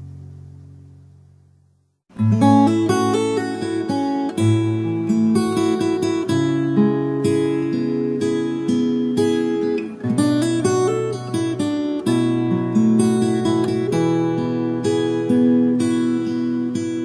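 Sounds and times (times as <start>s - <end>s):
acoustic guitar instrumental: 2.1s - 17.0s.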